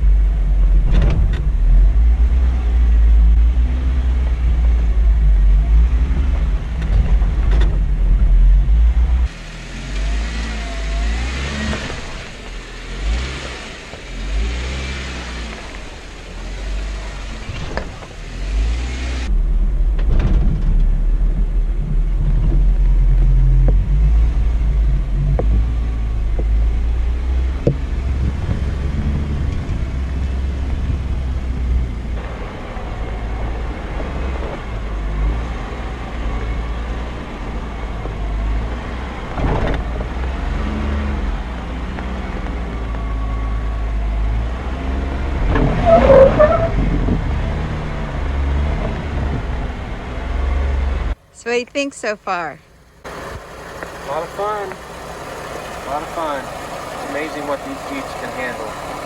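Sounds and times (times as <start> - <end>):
heavy low rumble: 0.0 - 14.4, 15.2 - 51.3
engine running and revving: 0.0 - 51.2, 53.0 - 59.0.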